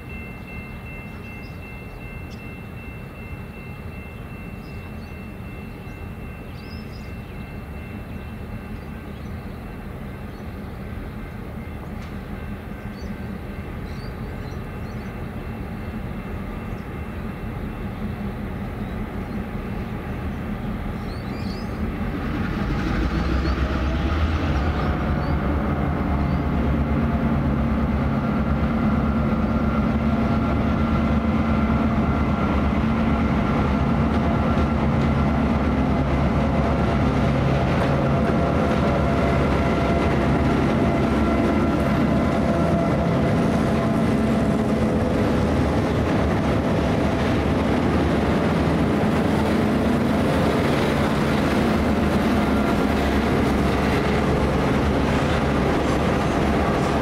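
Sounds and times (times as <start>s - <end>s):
diesel locomotive engine drone: 0.0s - 57.0s
train rumbling on rails: 0.0s - 57.0s.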